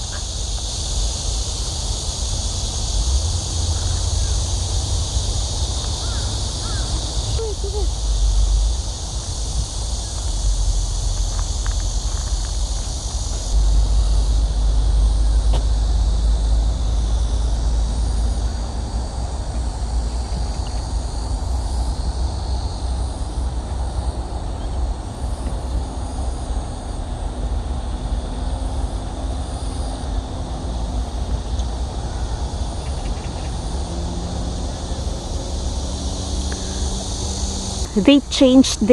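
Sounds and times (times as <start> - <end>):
low rumble: 0.0 - 38.0
steady high hiss: 0.0 - 38.9.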